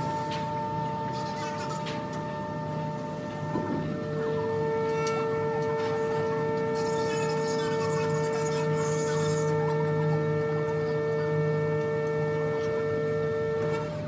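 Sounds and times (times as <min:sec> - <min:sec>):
bridge machinery humming: 0:00.0 - 0:14.0.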